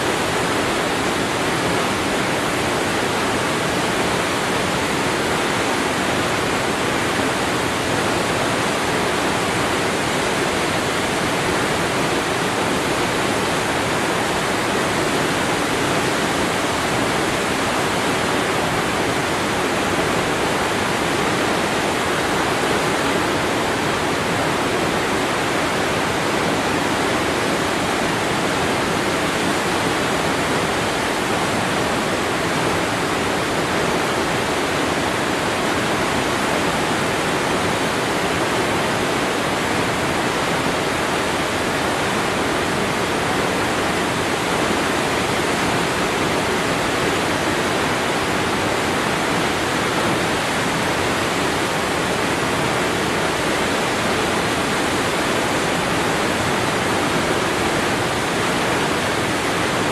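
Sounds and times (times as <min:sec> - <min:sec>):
waterfall crashing onto water: 0:00.0 - 0:59.9.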